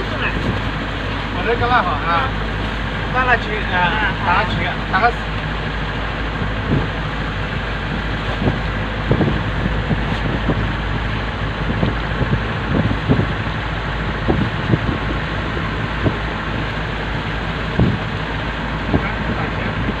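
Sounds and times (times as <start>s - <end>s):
wind on microphone: 0.0s - 1.4s, 4.8s - 20.0s
boat engine running: 0.0s - 20.0s
water slapping against hull: 0.0s - 20.0s.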